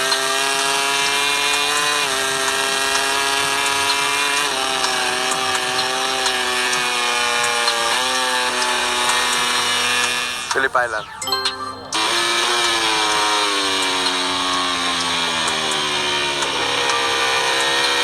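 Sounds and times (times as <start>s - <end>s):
racing motorcycle engine screaming: 0.0s - 18.0s.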